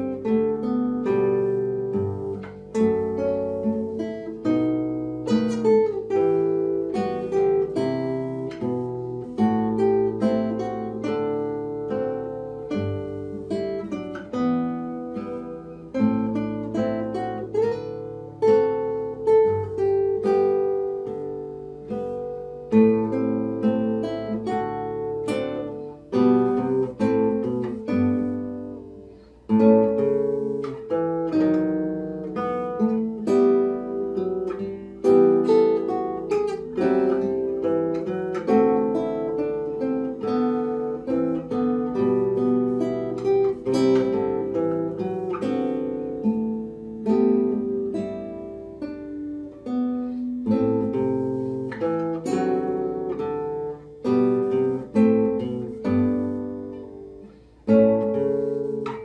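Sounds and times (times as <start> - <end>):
classical guitar duet: 0.0 - 59.0.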